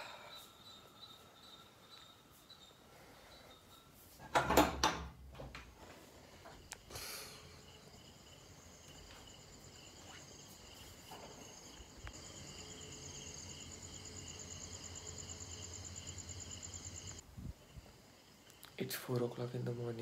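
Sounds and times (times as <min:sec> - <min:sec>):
crickets chirring: 0:00.0 - 0:04.3, 0:06.0 - 0:20.0.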